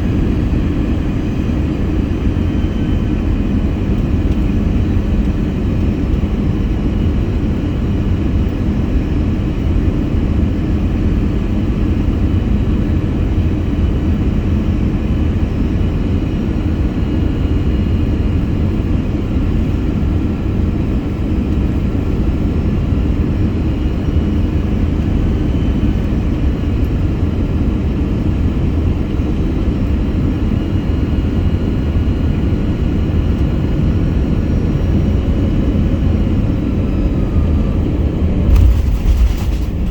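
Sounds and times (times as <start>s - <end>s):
airflow and engine rumble: 0.0s - 39.9s.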